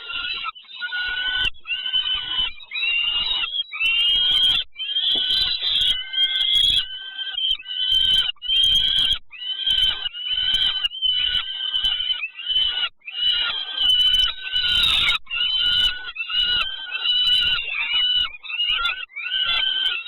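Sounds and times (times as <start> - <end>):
chicks begging calls: 0.0 - 20.0.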